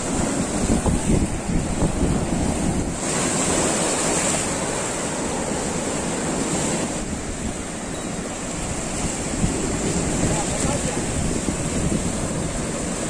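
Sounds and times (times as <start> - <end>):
waves breaking on rocks: 0.0 - 13.0.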